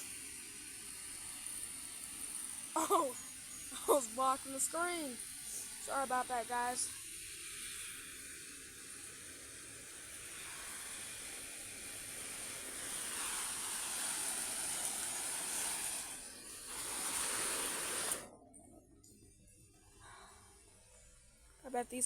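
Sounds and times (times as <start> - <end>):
garden hose spraying water: 0.0 - 18.3.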